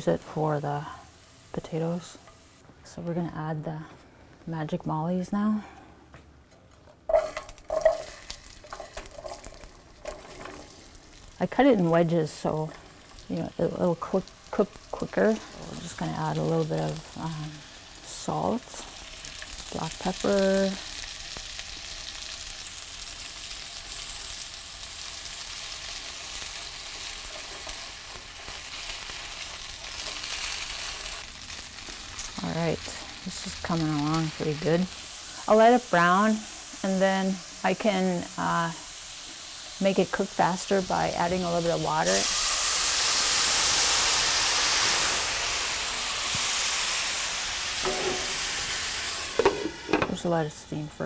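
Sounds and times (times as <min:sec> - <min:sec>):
potato wedges sizzling in oil: 0:00.0 - 0:02.6, 0:07.1 - 0:51.0
water hissing in hot pan: 0:08.1 - 0:50.8.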